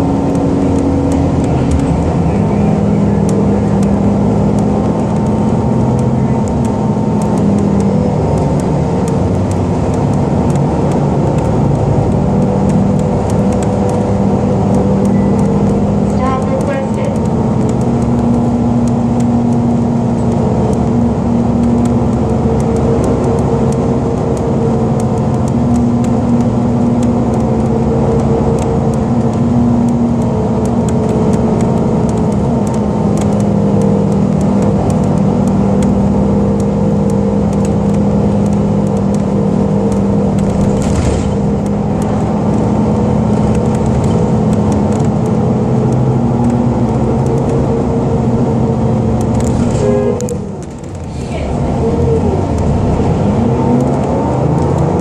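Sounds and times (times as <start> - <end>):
bus engine drone: 0.0 - 55.0
light ticks: 3.2 - 21.0, 21.6 - 47.8, 53.7 - 55.0.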